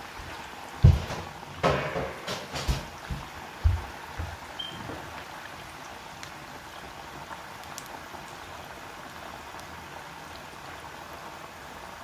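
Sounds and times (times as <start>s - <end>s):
chips deep-frying in oil: 0.0s - 12.0s.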